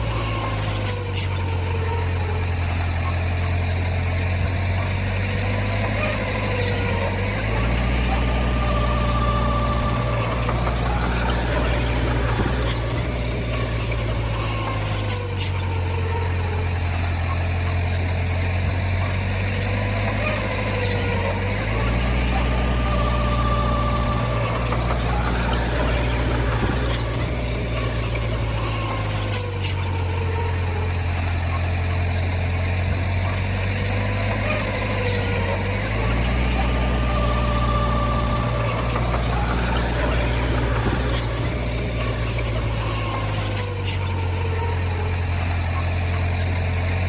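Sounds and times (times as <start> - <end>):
clicks: 0.0 - 47.0
heavy diesel engine running: 0.0 - 47.0.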